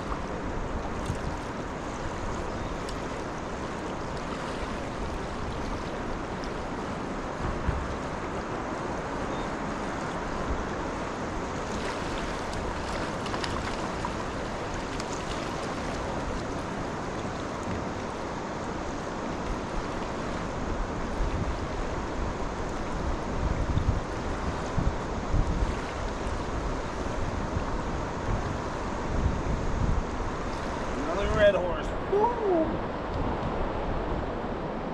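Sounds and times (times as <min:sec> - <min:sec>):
wind buffeting microphone: 0:00.0 - 0:09.2, 0:10.2 - 0:34.9
river water rushing: 0:00.0 - 0:34.9.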